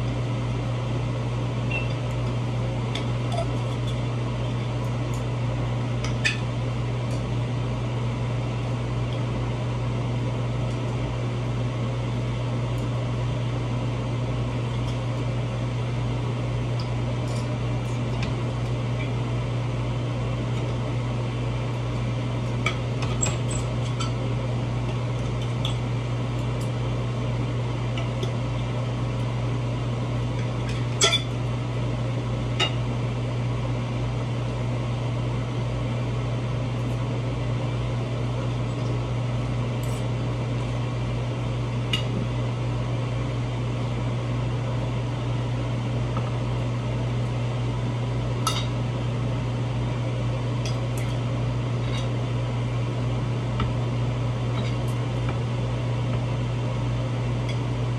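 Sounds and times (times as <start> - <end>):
kitchen appliance humming: 0.0 - 57.9.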